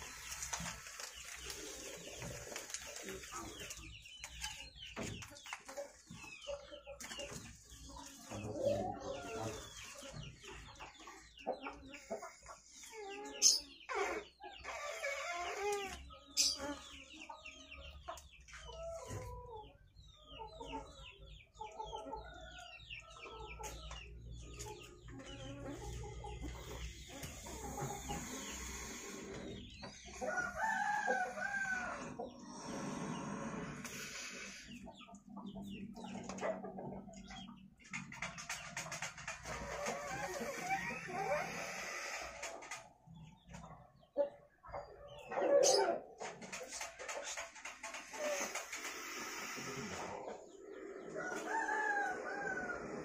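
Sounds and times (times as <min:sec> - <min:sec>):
birds calling: 0:00.0 - 0:53.0.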